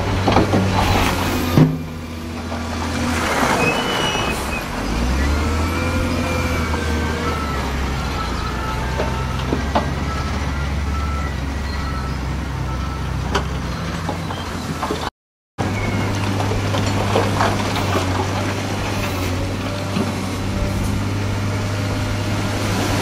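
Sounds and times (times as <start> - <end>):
loader diesel engine under load: 0.0 - 23.0.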